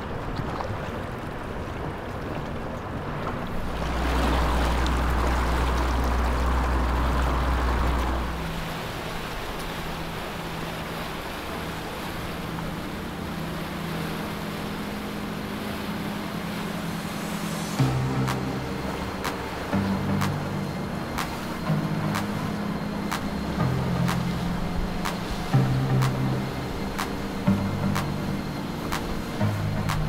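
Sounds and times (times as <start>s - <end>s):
powerboat engine rumble: 0.0s - 30.0s
rushing water: 0.0s - 30.0s
wind: 0.0s - 30.0s.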